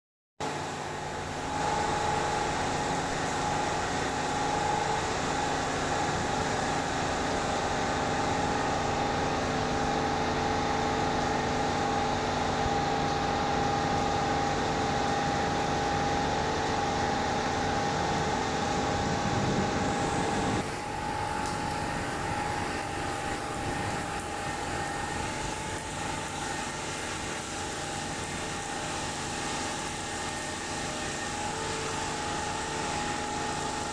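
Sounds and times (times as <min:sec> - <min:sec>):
mechanical hum with whine: 0:00.4 - 0:33.9.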